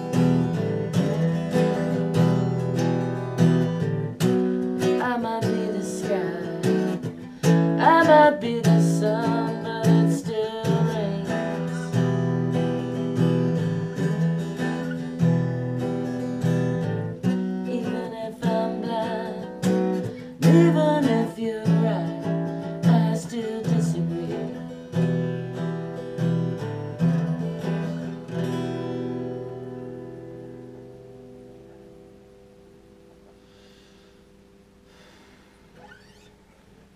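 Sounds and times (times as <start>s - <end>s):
acoustic guitar strummed: 0.0s - 36.6s.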